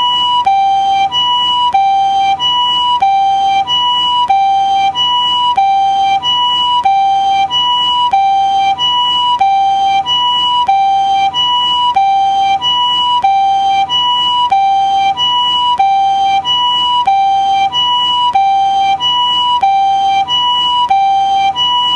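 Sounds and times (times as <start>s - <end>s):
two-tone ambulance siren: 0.0s - 21.9s.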